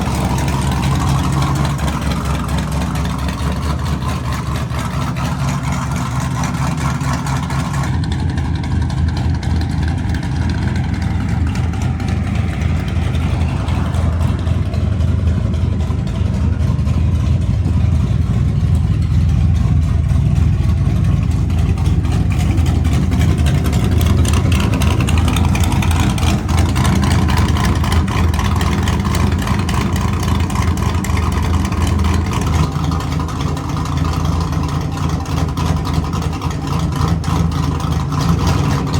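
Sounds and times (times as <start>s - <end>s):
car engine deep exhaust rumble: 0.0s - 38.9s.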